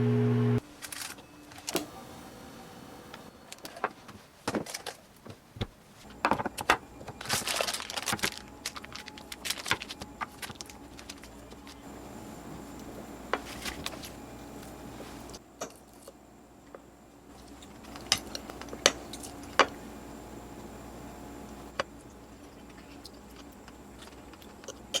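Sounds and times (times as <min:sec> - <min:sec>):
low steady hum: 0:00.0 - 0:03.8, 0:06.0 - 0:25.0.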